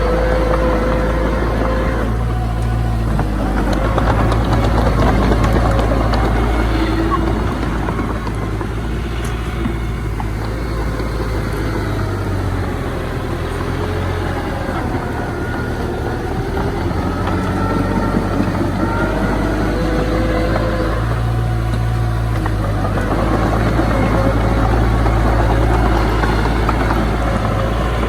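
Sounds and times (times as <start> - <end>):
diesel engines of heavy machinery: 0.0 - 28.0.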